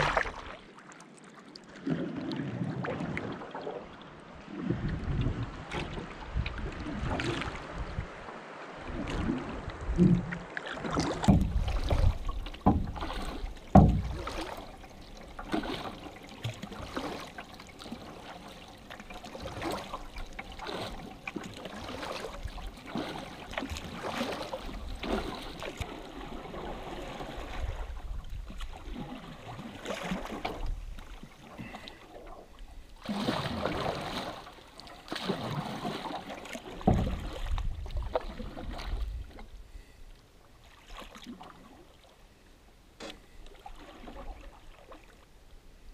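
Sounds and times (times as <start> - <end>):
water lapping at a canoe hull: 0.0 - 45.9.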